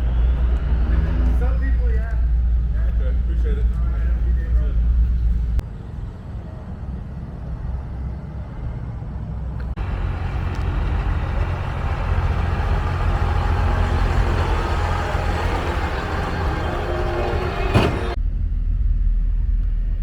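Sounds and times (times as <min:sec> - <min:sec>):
vehicle engines rumbling: 0:00.0 - 0:18.2.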